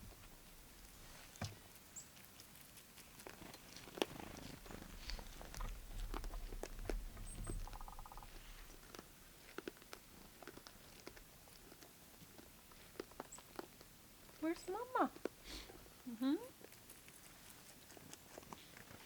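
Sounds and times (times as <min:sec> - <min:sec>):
deer chewing corn: 0:00.1 - 0:19.0.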